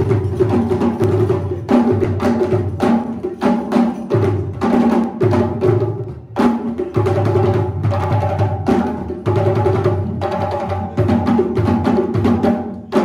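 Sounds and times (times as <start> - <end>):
hand drumming on tall drums: 0.0 - 13.0.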